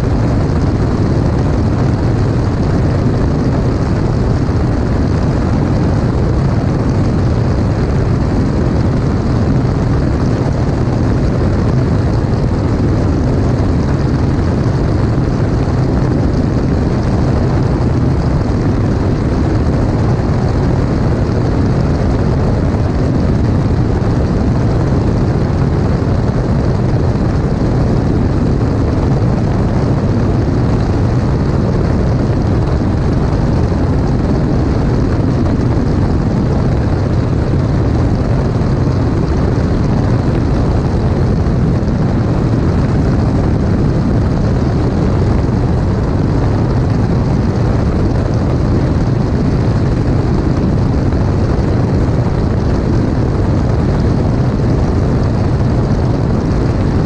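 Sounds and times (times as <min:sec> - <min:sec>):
light aircraft engine and propeller: 0:00.0 - 0:57.0
rush of airflow: 0:00.0 - 0:57.0.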